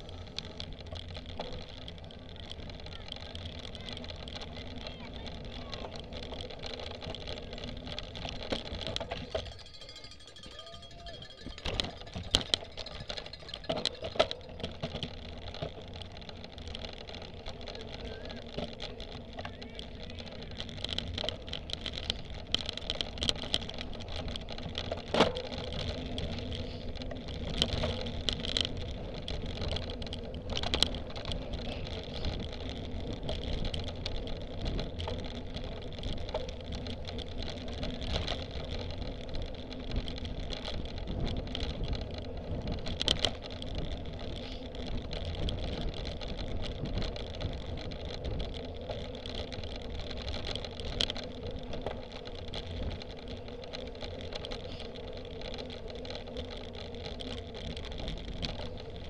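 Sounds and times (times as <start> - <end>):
bike rumbling over bumpy grass: 0.0 - 59.0.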